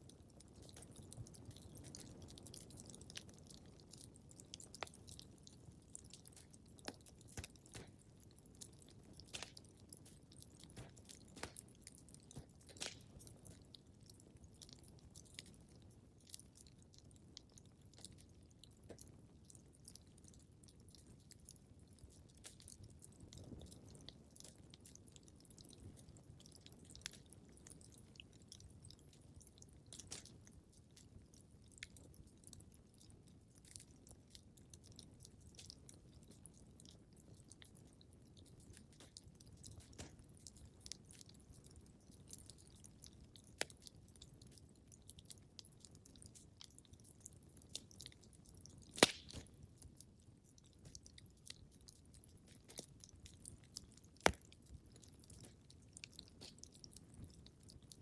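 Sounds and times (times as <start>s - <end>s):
wood fire crackling quietly: 0.0s - 58.0s.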